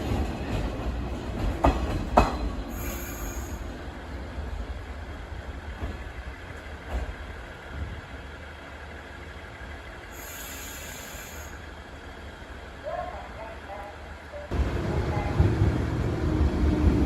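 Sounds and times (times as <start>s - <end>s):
electric train low rumble: 0.0s - 17.0s.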